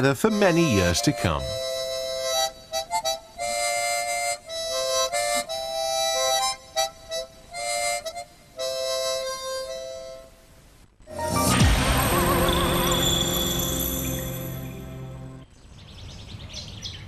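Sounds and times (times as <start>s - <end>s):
harmonica playing a tune: 0.0s - 10.4s, 11.1s - 15.3s.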